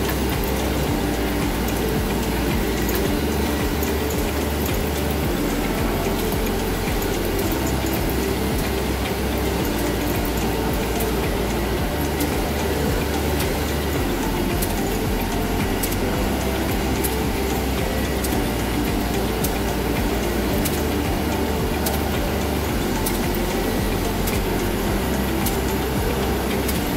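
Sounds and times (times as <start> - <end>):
machinery hum and rumble: 0.0 - 26.9.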